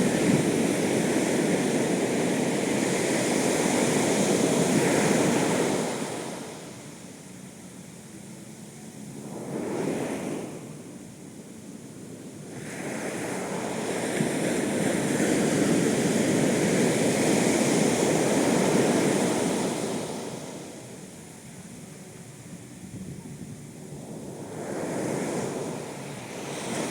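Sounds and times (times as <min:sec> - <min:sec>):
ocean waves breaking on beach: 0:00.0 - 0:26.9.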